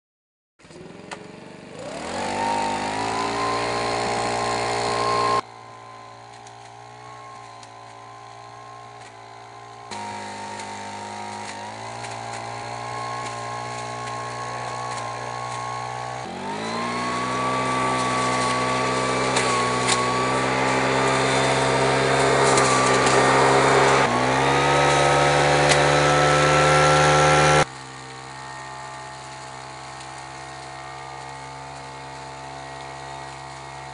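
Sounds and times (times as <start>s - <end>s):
leaf blower engine revving: 0.6s - 33.9s.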